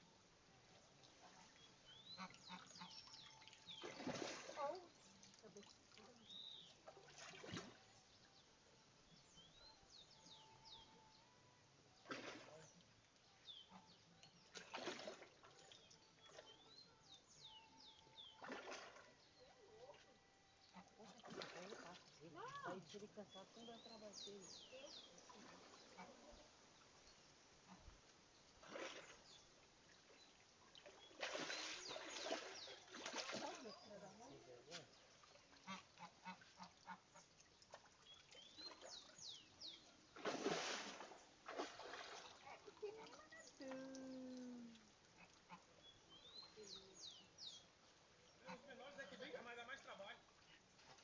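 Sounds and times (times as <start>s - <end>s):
faint birdsong chirps: 0.0s - 50.9s.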